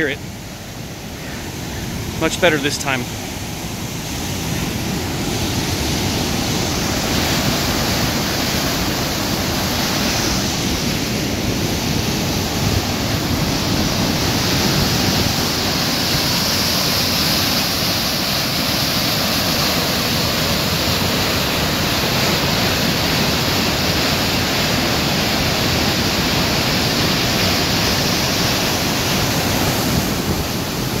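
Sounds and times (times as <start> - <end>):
rushing whitewater: 0.0 - 31.0.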